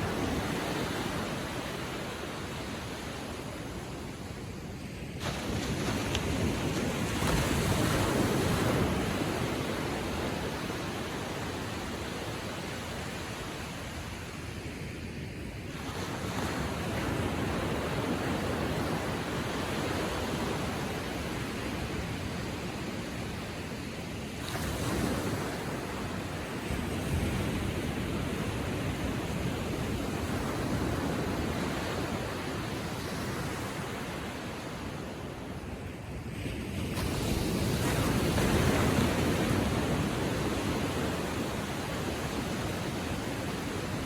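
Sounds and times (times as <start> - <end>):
small waves washing onto sand: 0.0 - 44.0.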